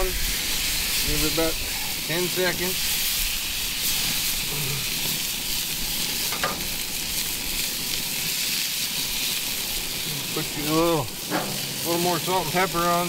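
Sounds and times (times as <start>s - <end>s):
burger patty sizzling on griddle: 0.0s - 13.0s.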